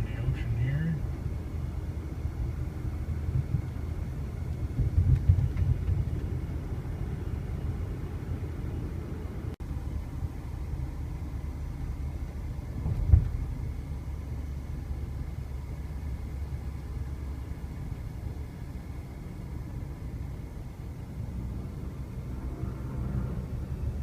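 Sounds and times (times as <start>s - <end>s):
vehicle driving rumble from cab: 0.0s - 24.0s.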